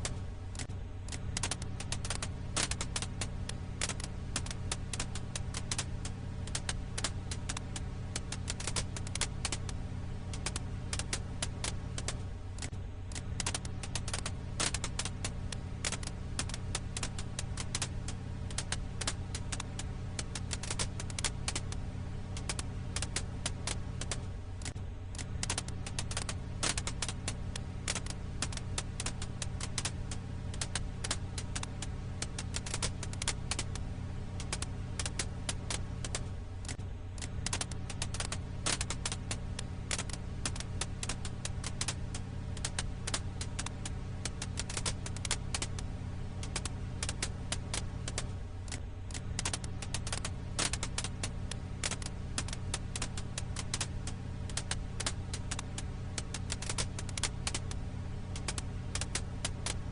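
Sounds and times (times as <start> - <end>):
burning wood crackling: 0.0 - 59.9
low hum: 0.0 - 59.9.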